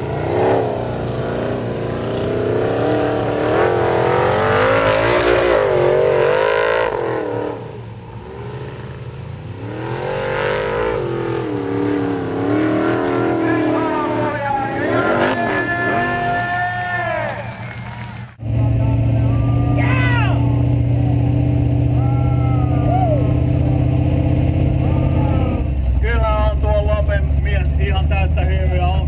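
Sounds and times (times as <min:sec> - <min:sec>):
buggy engine revving hard: 0:00.0 - 0:16.6, 0:18.4 - 0:29.0.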